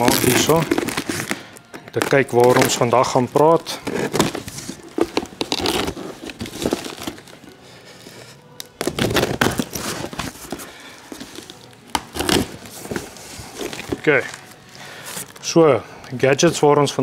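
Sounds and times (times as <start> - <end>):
cardboard and paper rustling: 0.0 - 15.5.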